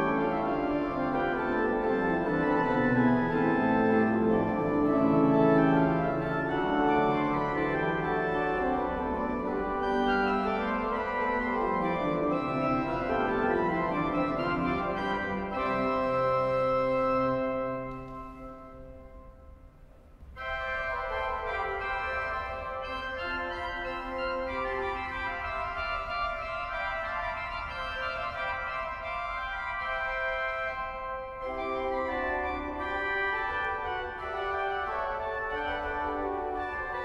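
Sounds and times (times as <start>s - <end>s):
pipe organ playing: 0.0s - 37.0s.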